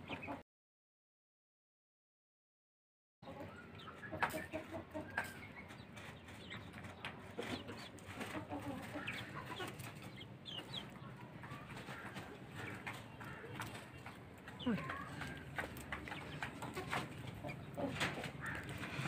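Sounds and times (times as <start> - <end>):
hens clucking: 0.0 - 0.4, 3.2 - 19.0.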